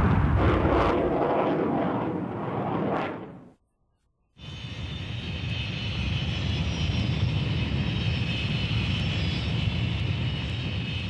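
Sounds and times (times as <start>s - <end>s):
jet engines rumbling and whining: 0.0s - 3.6s, 4.4s - 11.0s.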